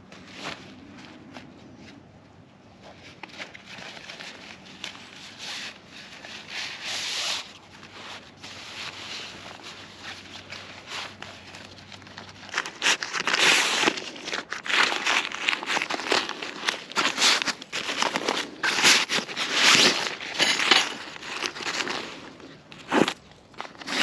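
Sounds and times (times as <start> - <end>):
material crinkling and rustling: 0.0 - 24.0.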